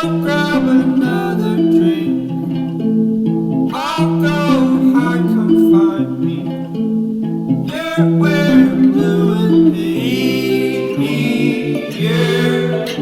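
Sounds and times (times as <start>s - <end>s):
person singing: 0.0s - 2.7s, 3.7s - 6.8s, 7.6s - 13.0s
guitar: 0.0s - 13.0s.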